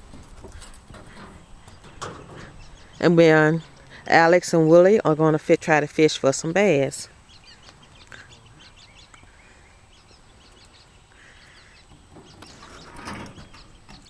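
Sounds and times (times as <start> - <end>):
birdsong chirps and calls: 0.0 - 14.0
rustle: 0.0 - 14.0.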